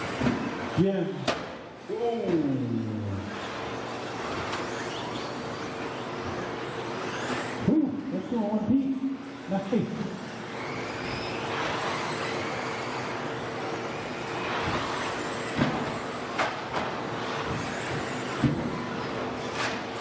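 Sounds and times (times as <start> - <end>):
electric motors whining: 0.0 - 20.0.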